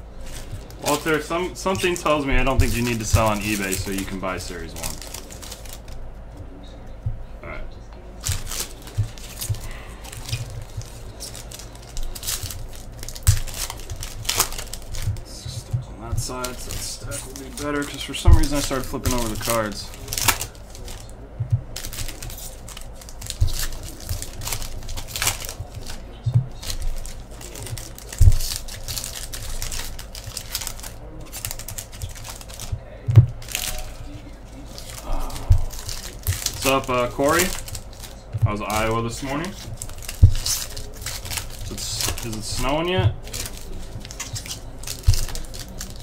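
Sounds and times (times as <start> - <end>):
cards and wrappers crinkling: 0.0 - 6.0, 8.2 - 46.0.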